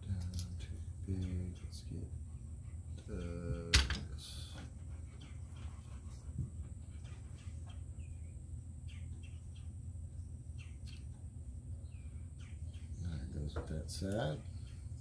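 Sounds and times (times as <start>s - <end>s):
faint birds chirping: 0.0s - 15.0s
steady low hum: 0.0s - 15.0s.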